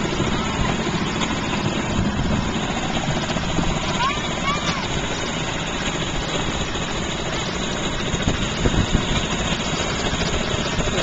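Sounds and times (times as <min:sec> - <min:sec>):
small boat motor running: 0:00.0 - 0:11.0.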